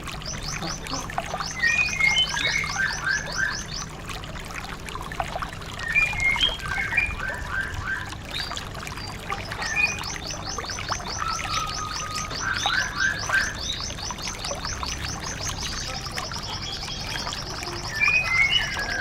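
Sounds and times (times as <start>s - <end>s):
songbird singing: 0.0s - 4.0s, 5.8s - 19.0s.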